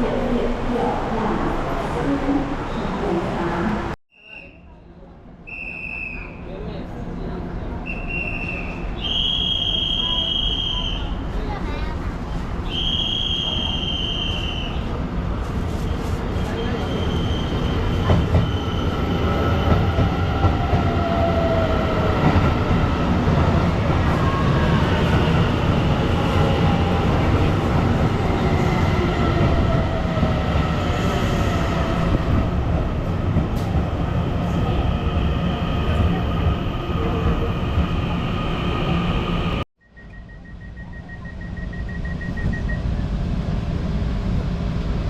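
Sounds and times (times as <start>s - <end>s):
train rumbling on rails: 6.5s - 45.0s.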